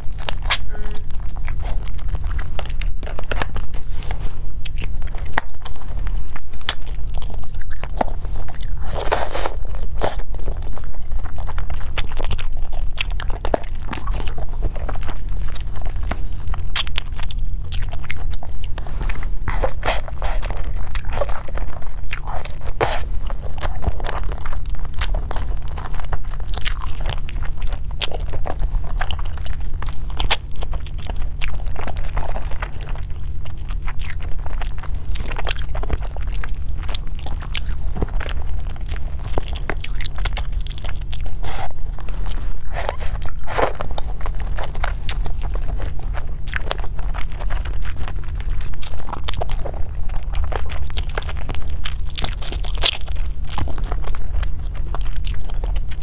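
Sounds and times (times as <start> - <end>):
chewing clicks and crackles: 0.0 - 3.8, 4.4 - 56.0
low hum: 0.0 - 56.0.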